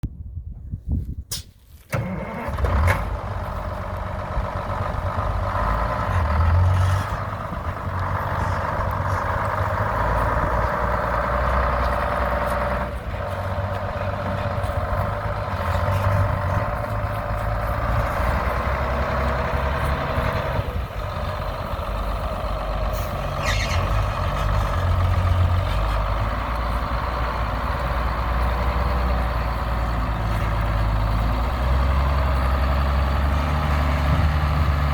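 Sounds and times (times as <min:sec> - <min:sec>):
truck engine starting and running: 0:01.3 - 0:34.9.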